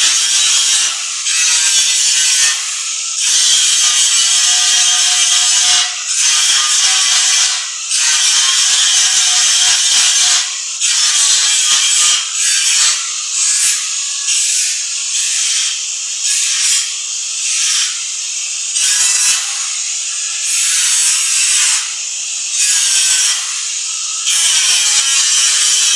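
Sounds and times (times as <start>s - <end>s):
angle grinder grinding steel: 0.0s - 25.9s.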